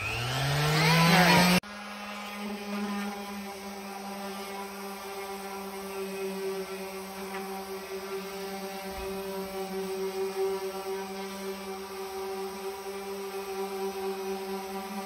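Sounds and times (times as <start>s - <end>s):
orbital sander on wood: 0.0s - 15.0s
rising whine: 0.0s - 15.0s.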